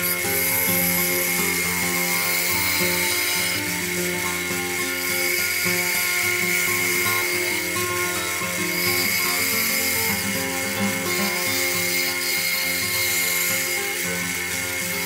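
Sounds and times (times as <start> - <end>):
bandsaw whining: 0.0 - 15.0.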